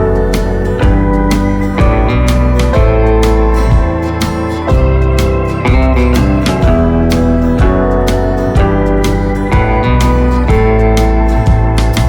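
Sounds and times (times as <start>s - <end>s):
instrumental music with slide guitar: 0.0s - 12.0s.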